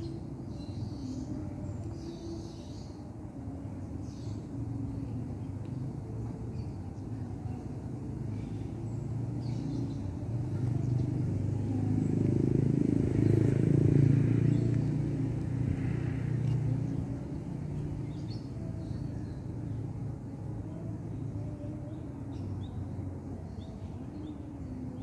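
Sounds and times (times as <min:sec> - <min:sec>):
vehicle engine rumble passing: 0:04.0 - 0:25.0.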